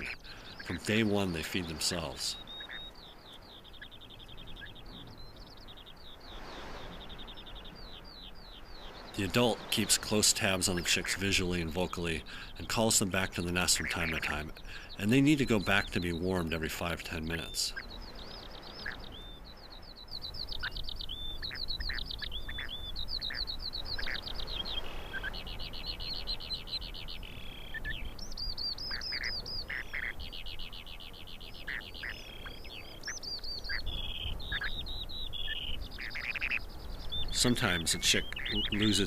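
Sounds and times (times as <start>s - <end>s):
sandpipers chirping rapidly: 0.0s - 39.0s.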